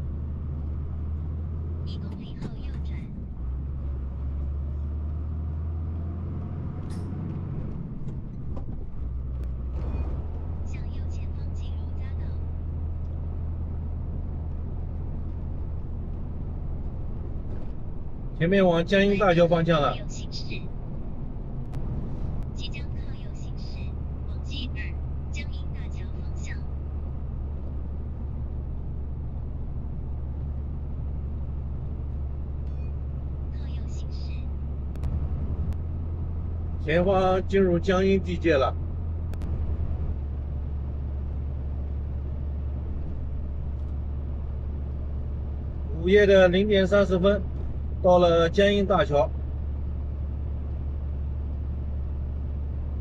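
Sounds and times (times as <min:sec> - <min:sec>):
truck engine drone: 0:00.0 - 0:53.0.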